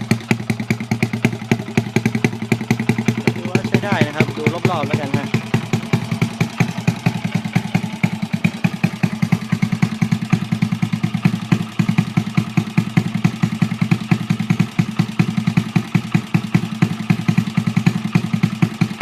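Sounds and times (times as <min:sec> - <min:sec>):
minibike engine idling: 0:00.0 - 0:19.0.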